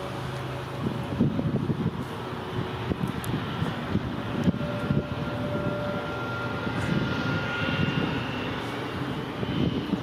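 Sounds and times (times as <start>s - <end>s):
faint high engine whine: 0.0s - 10.0s
jet engine rumble: 0.0s - 10.0s.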